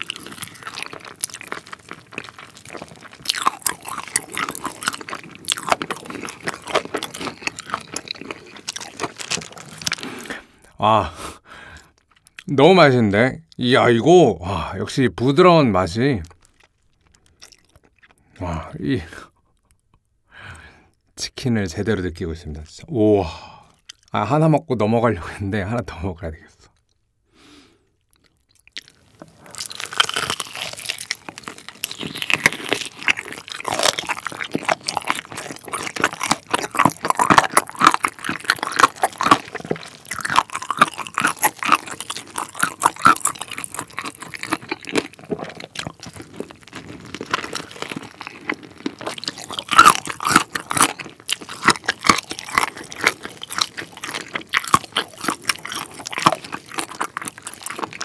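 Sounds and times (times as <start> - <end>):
wet chewing: 0.0 - 10.8, 11.6 - 12.6, 15.3 - 18.5, 23.5 - 24.2, 26.7 - 58.0
crunching fried chicken: 0.0 - 11.0, 11.6 - 19.8, 27.5 - 58.0.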